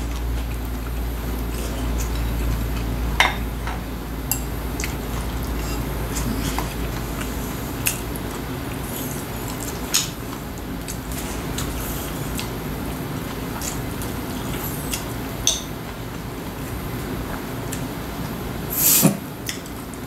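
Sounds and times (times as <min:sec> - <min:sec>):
chewing: 0:00.0 - 0:03.0, 0:04.7 - 0:17.9.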